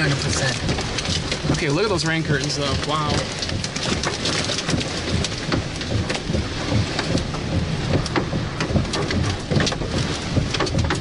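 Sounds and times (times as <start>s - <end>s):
rain tapping on car: 0.0s - 11.0s
vehicle low rumble: 0.0s - 11.0s.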